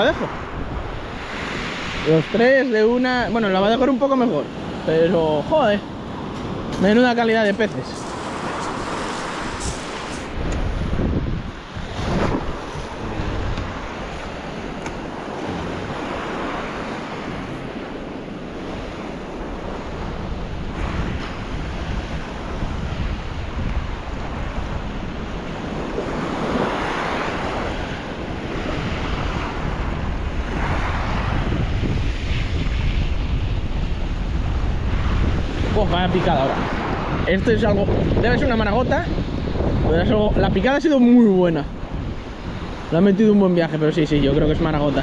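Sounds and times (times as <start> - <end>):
surf washing on rocky shore: 0.0 - 45.0
wind buffeting microphone: 0.0 - 45.0.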